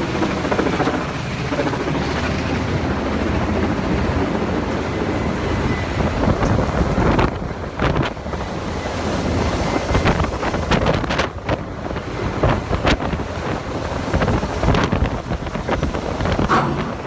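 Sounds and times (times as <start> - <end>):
deep helicopter rumble: 0.0 - 17.0
helicopter rotor wind noise: 0.0 - 17.0.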